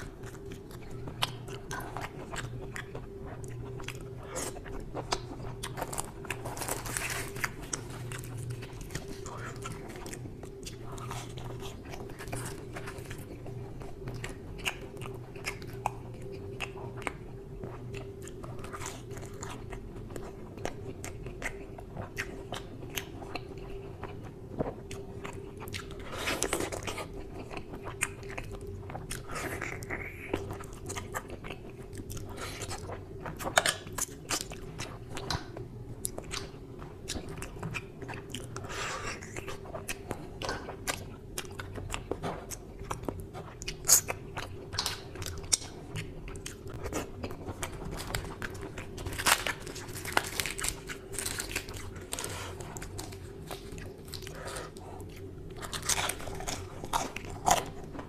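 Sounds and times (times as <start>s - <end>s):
steady low hum: 0.0s - 58.0s
wet chewing: 0.0s - 58.0s.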